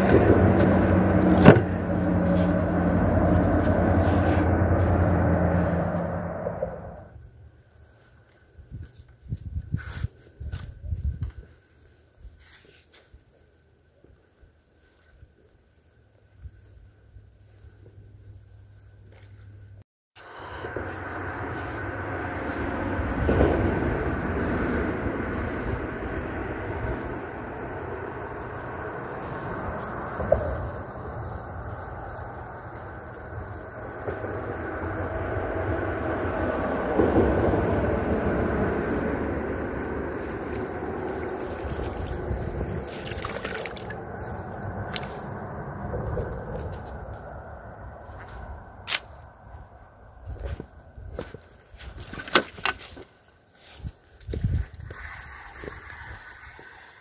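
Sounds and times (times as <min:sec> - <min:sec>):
road traffic drone: 0:00.0 - 0:09.2, 0:15.8 - 0:51.9, 0:53.4 - 0:57.0.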